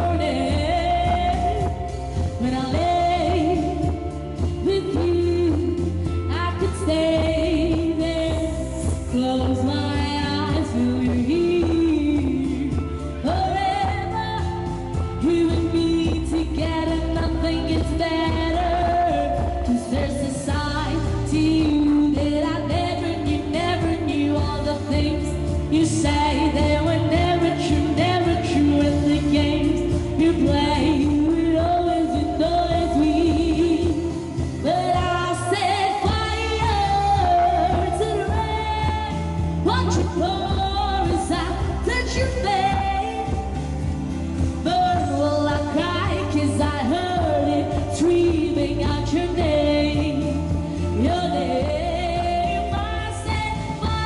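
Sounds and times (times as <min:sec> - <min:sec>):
backing music: 0:00.0 - 0:54.0
woman singing a pop ballad: 0:00.0 - 0:54.0.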